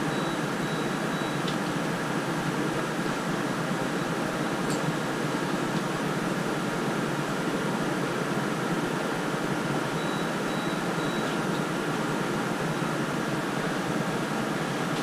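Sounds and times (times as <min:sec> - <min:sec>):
steady whooshing fan noise: 0:00.0 - 0:15.0.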